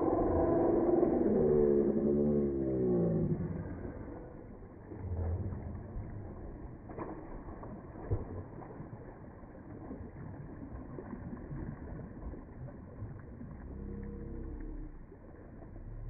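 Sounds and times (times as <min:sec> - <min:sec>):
sea water sloshing and splashing: 0:02.1 - 0:16.0.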